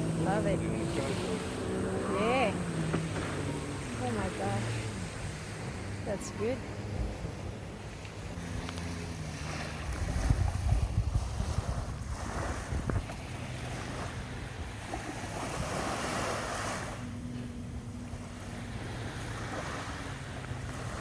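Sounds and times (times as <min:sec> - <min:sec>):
jet ski engine humming: 0:00.0 - 0:21.0
surf washing on beach: 0:00.0 - 0:21.0
wind buffeting microphone: 0:00.0 - 0:21.0.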